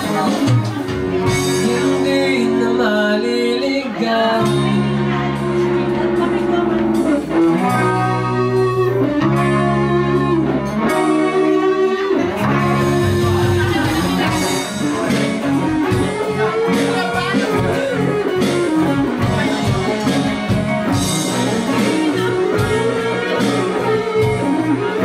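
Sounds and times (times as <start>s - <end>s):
bass guitar: 0.0s - 25.0s
drums: 0.0s - 25.0s
electric guitars: 0.0s - 25.0s.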